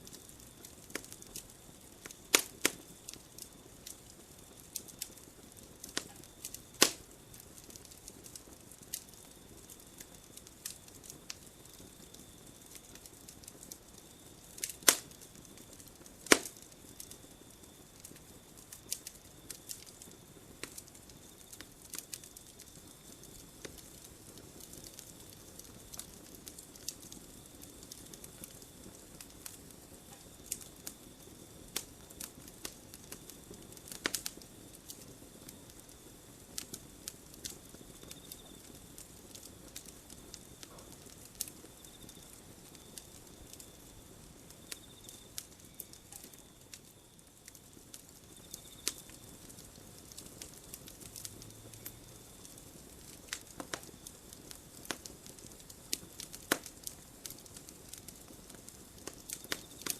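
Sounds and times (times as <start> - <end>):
campfire crackling: 0.0 - 59.9
loud pops of burning wood: 0.0 - 59.9.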